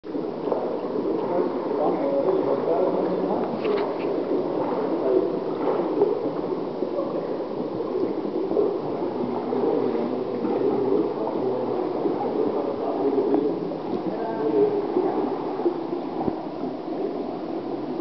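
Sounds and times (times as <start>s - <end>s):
water gurgling and churning: 0.0s - 18.0s.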